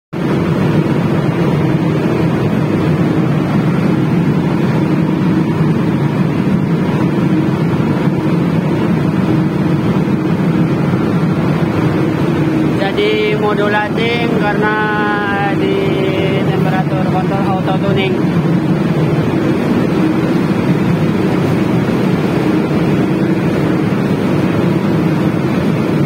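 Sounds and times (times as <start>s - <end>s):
fans turning: 0.2s - 26.0s
industrial dryer droning: 0.2s - 26.0s
low hum: 0.2s - 26.0s.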